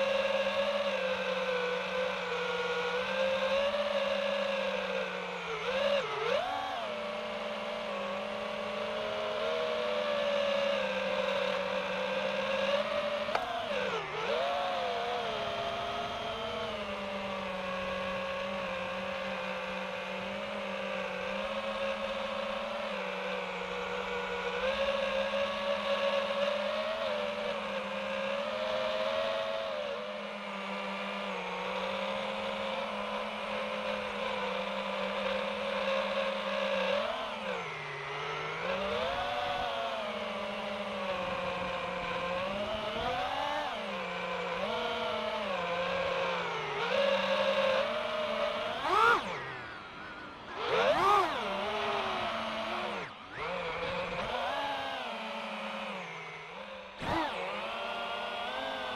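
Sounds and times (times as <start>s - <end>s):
drone propellers whining: 0.0s - 58.9s.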